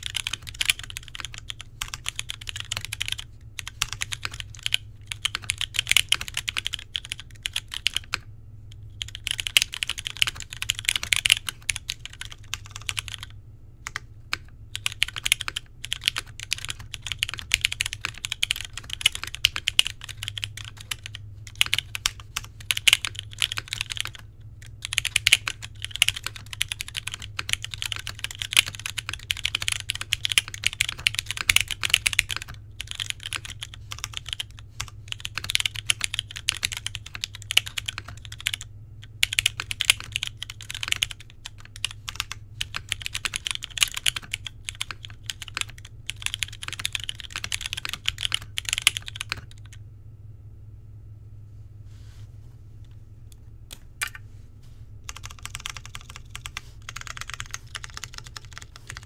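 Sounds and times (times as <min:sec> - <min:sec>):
typing on mechanical keyboard: 0:00.0 - 0:08.2, 0:08.9 - 0:49.8, 0:55.1 - 0:59.0.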